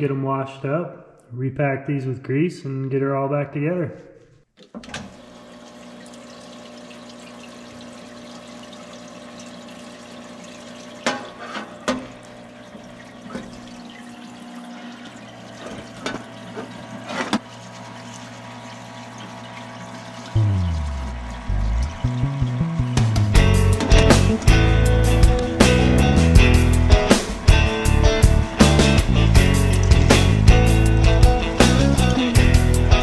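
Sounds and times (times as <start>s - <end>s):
pump humming: 4.8s - 33.0s.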